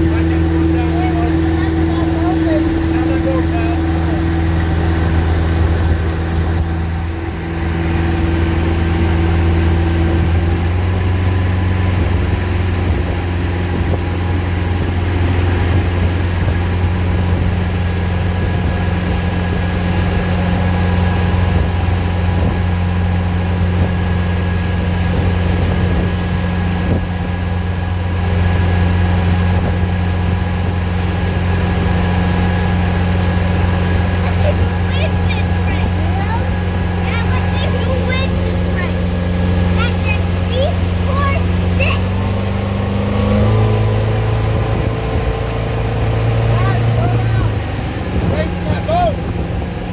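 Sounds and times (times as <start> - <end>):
boat engines droning: 0.0 - 49.9.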